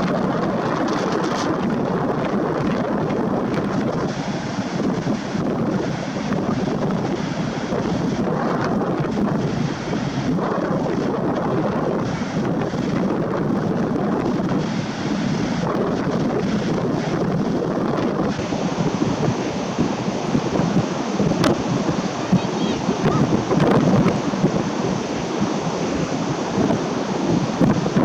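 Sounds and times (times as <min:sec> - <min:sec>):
wind blowing across microphone: 0:00.0 - 0:28.0.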